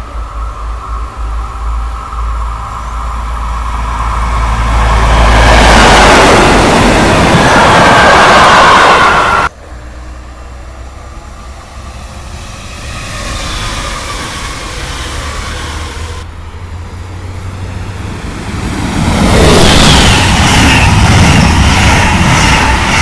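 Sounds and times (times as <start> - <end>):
electric train passing with whine: 0.0 - 23.0
train approaching: 0.0 - 23.0
train wheels rumbling on rails: 0.0 - 23.0.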